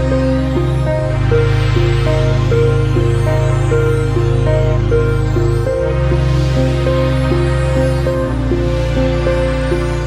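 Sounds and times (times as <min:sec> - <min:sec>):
repeating melody over bass: 0:00.0 - 0:10.0.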